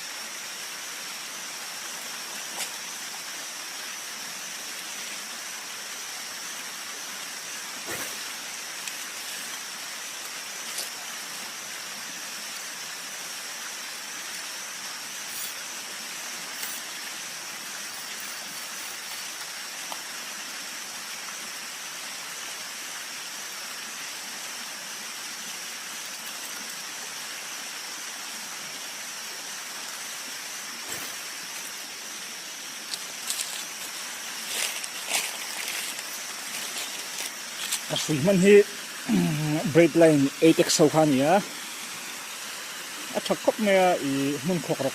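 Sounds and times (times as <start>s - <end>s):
flowing river water: 0.0s - 44.9s.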